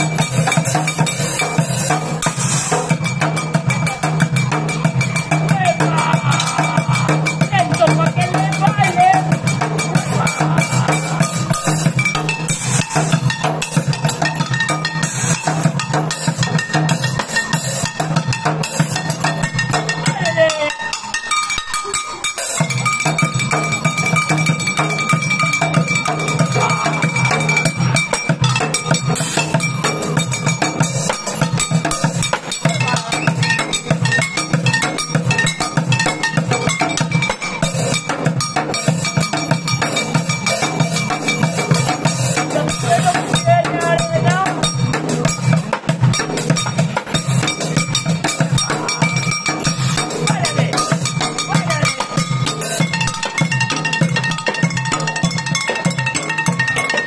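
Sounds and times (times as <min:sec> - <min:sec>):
drumming on buckets and pots: 0:00.0 - 0:57.0
high metallic ringing tone: 0:00.0 - 0:57.0.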